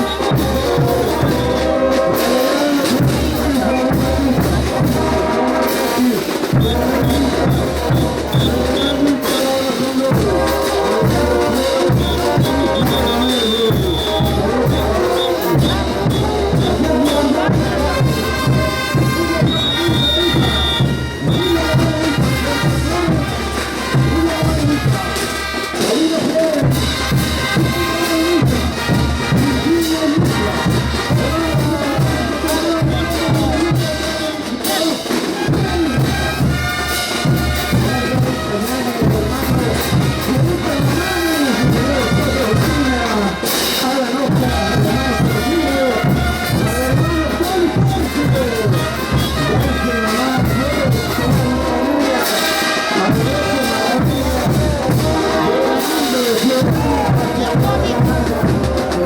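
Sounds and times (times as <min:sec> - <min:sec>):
steady drum beat: 0:00.0 - 0:59.0
trumpets and trombones melody: 0:00.0 - 0:59.0.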